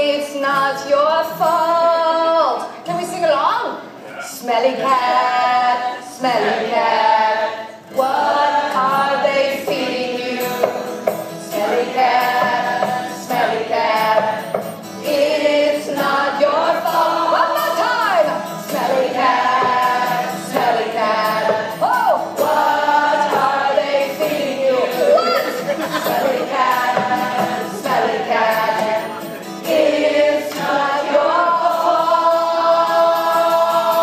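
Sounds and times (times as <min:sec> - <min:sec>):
strummed acoustic guitars: 0:03.9 - 0:34.0
group singing: 0:04.1 - 0:34.0
woman singing lead: 0:04.4 - 0:34.0.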